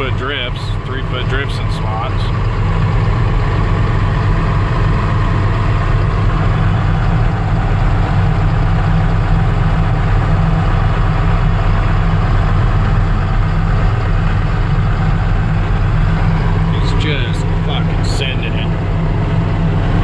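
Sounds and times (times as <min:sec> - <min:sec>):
heavy diesel engine under load: 0:00.0 - 0:20.0
snowblower cutting through snow: 0:00.0 - 0:20.0.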